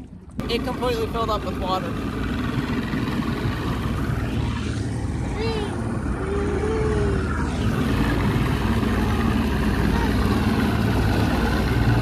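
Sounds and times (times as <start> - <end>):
outboard motor drone: 0.0 - 12.0
rushing water: 0.0 - 12.0.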